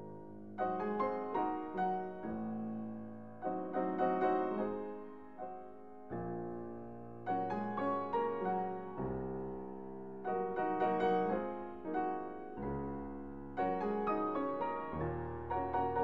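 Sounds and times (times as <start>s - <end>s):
gentle solo piano music: 0.0s - 16.0s.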